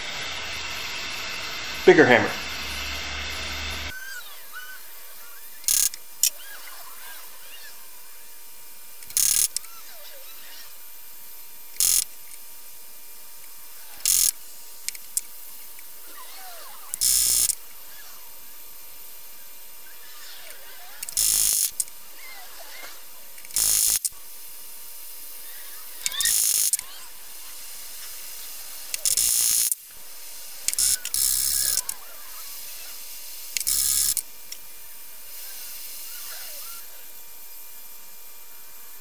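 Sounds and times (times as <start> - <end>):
torch flame hissing: 0.0 - 38.2.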